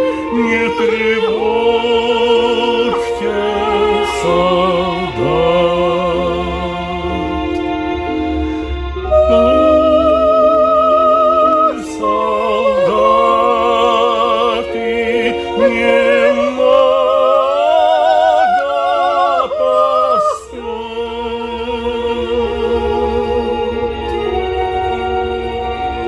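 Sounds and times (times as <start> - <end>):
operatic wordless melody: 0.0 - 26.0
sustained accompaniment: 0.0 - 26.0.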